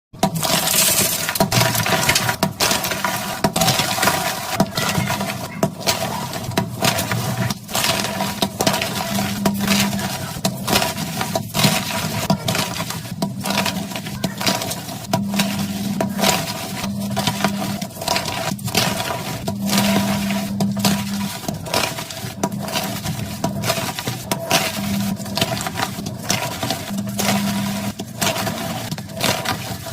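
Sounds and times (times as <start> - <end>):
chalk blocks crunching: 0.2 - 29.9.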